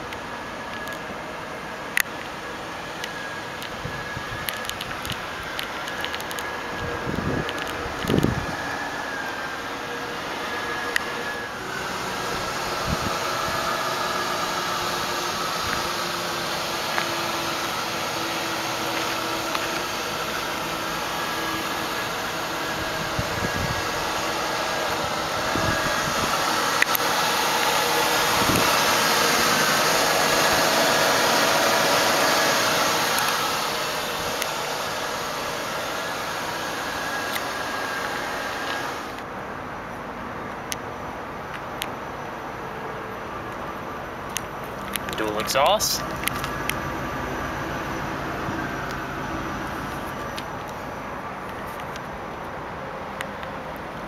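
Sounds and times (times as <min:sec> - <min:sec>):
car engine idling: 0:00.0 - 0:54.0
steady hiss: 0:00.0 - 0:54.0.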